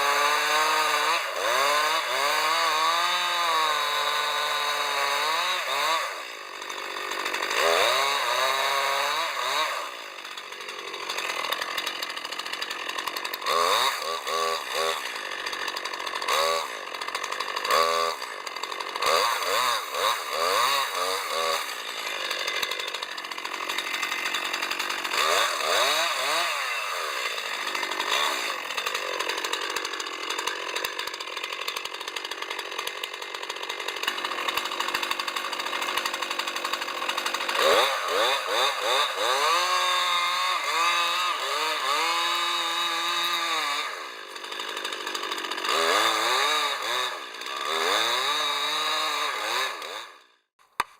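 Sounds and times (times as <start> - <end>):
chainsaw revving and cutting wood: 0.0 - 50.9.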